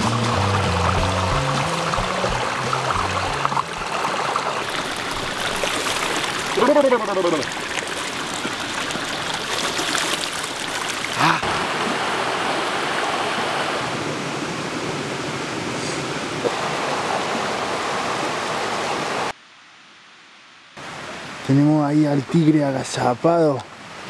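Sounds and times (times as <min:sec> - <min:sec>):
stream rushing over rocks: 0:00.0 - 0:19.4.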